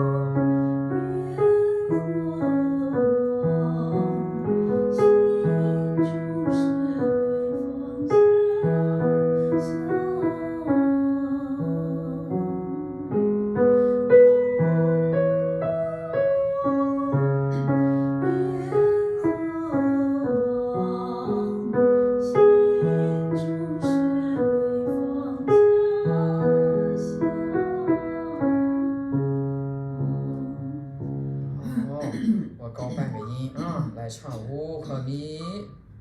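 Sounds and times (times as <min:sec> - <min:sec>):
slow piano melody: 0:00.0 - 0:36.0.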